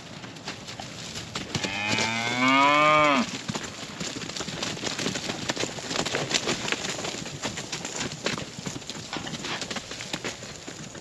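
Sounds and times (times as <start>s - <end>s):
hoofbeats on dry dirt: 0.0s - 11.0s.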